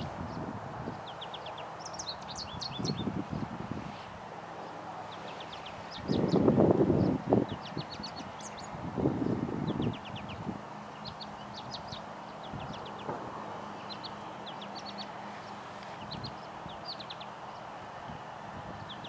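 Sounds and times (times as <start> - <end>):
wind buffeting microphone: 0.0 - 4.3, 5.0 - 19.0.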